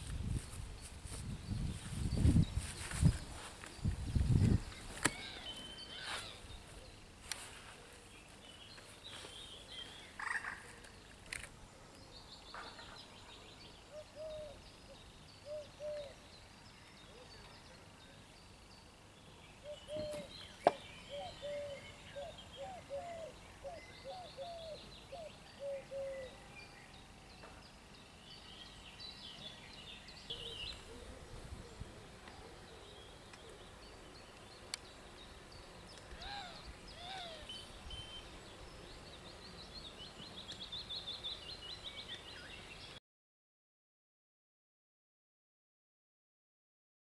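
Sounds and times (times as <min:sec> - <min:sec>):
bird calls and trills: 0:00.0 - 0:43.0.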